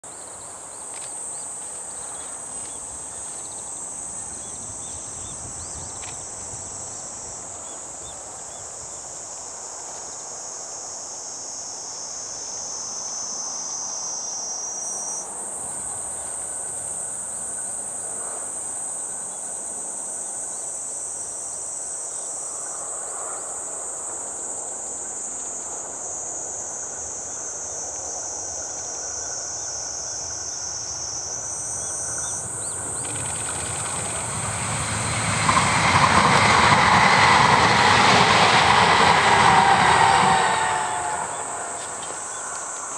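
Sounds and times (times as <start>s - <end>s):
insects calling in chorus: 0.1s - 42.9s.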